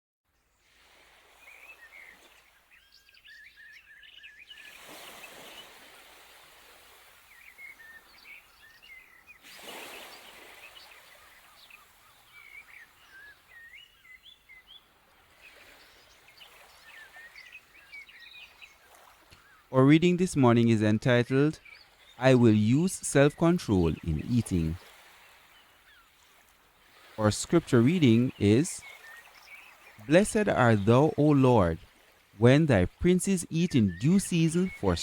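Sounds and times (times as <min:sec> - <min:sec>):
birds chirping and singing: 0:01.5 - 0:05.8, 0:07.3 - 0:14.9, 0:15.5 - 0:26.2, 0:27.1 - 0:35.0.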